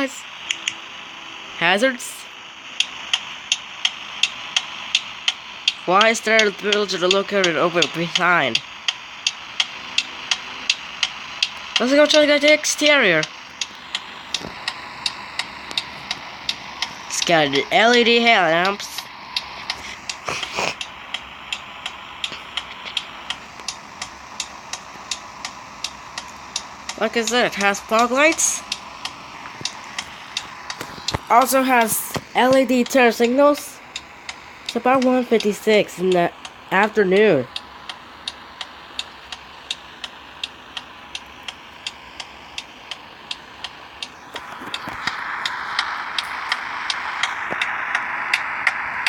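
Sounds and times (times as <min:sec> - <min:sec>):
truck engine idling: 0:00.0 - 0:49.0
turn signal flasher ticking: 0:00.0 - 0:49.0.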